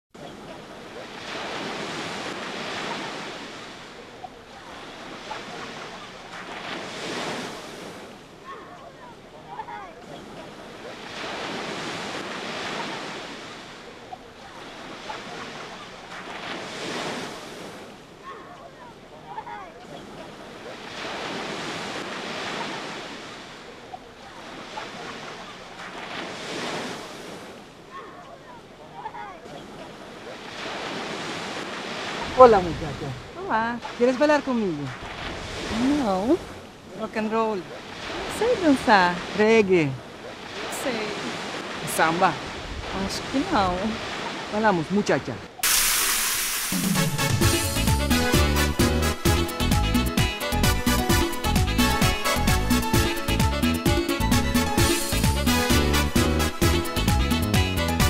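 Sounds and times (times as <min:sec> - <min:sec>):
sea waves on sandy shore: 0:00.2 - 0:58.0.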